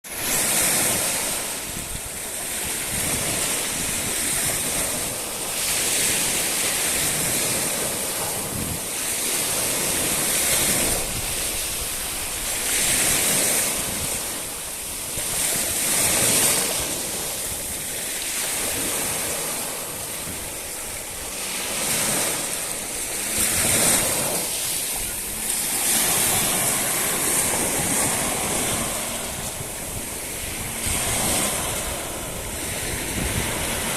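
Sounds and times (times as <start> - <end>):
sea waves breaking on shore: 0.0 - 33.9.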